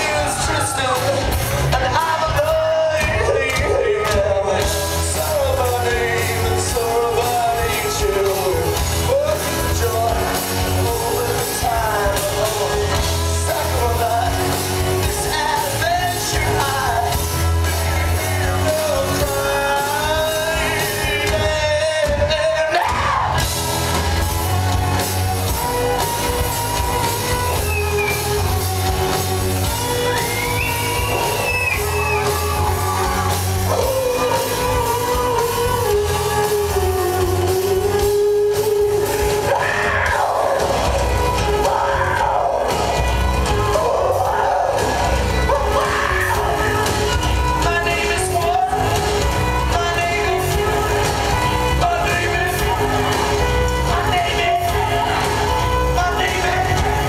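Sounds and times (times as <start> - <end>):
full band playing: 0.0 - 57.0
rock song with shouted vocals: 0.0 - 57.0.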